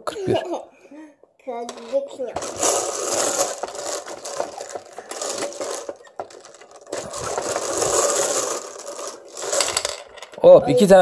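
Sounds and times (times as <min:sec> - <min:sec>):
plastic balls rattling in cage: 0:01.7 - 0:10.6.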